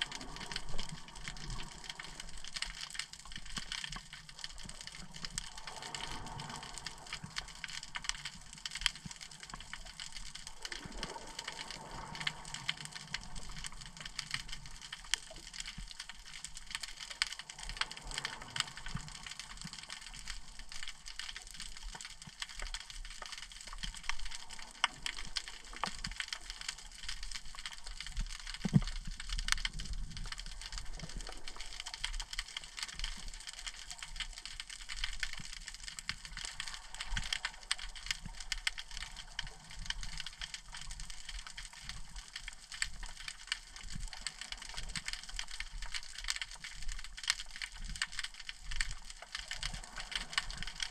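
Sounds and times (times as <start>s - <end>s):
low rumble of water movement: 0.0s - 50.9s
underwater crackle of tiny clicks: 0.0s - 50.9s.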